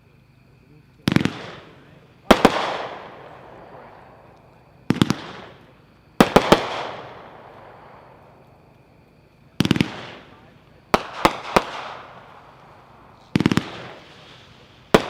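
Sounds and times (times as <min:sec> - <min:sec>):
fireworks cake bangs: 0:01.0 - 0:08.6, 0:09.4 - 0:15.0.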